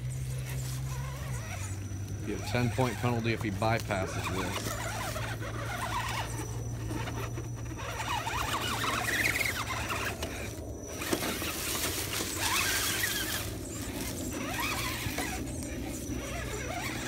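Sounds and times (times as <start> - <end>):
toy truck electric motor whining: 0.0 - 17.0.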